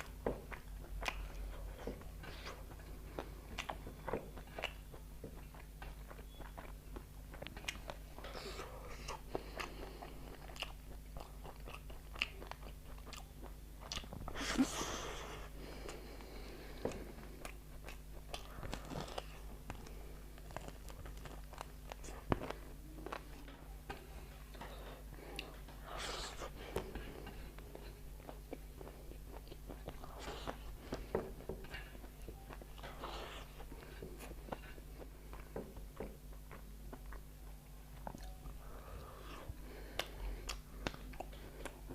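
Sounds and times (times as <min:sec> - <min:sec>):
close chewing and biting: 0:00.0 - 0:41.9
faint low hum: 0:00.0 - 0:41.9.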